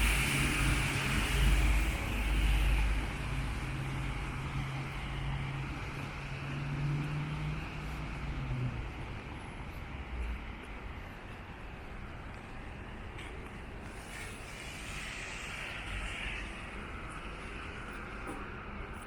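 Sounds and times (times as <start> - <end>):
rain and wet road hiss: 0.0 - 19.0
vehicle engine hum: 0.0 - 19.0.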